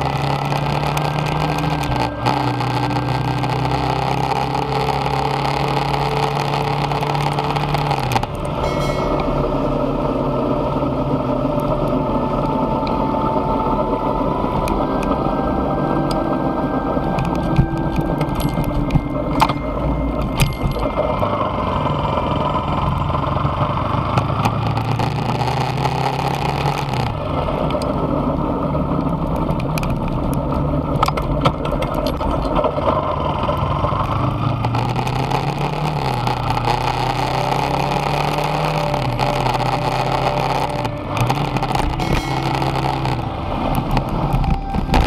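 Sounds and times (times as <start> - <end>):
motorcycle engine revving: 0.0 - 45.0
wind and road noise: 0.0 - 45.0.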